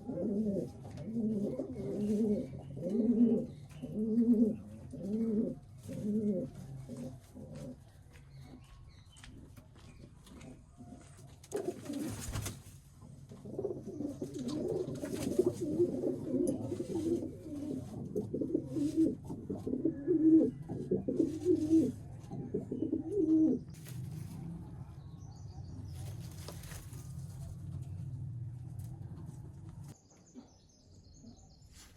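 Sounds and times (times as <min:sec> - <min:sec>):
pigeons cooing: 0:00.0 - 0:07.9, 0:10.3 - 0:12.4, 0:13.0 - 0:30.0.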